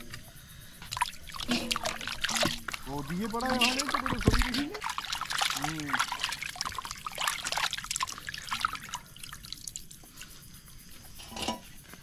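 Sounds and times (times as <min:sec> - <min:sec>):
water trickling and splashing: 0:00.0 - 0:11.7.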